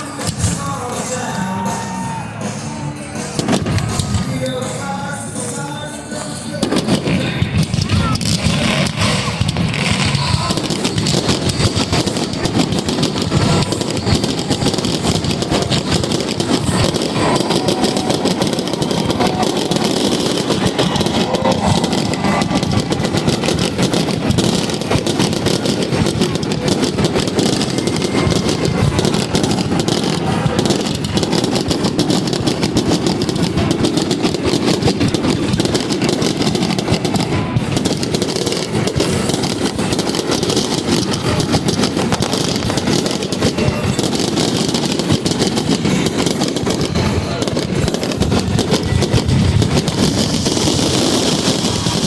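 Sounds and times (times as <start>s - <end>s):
fireworks crackling and popping: 0.0s - 52.0s.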